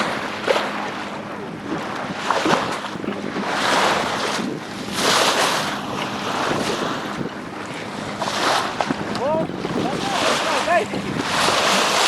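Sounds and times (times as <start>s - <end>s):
water splashing along hull: 0.0s - 12.0s
wind buffeting microphone: 0.0s - 12.0s.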